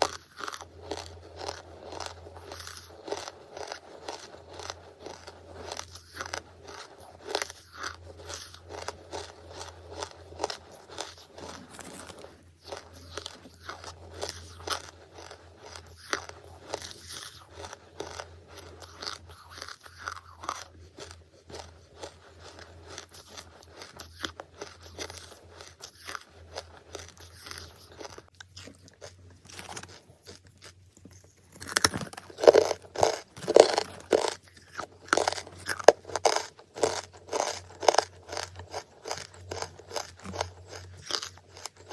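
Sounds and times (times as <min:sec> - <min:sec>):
charcoal crunching chewing: 0:00.0 - 0:41.9
faint low hum: 0:00.0 - 0:41.9.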